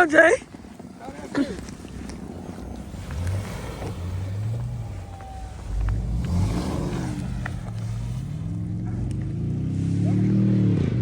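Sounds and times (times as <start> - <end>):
car engine revving: 1.6 - 11.0.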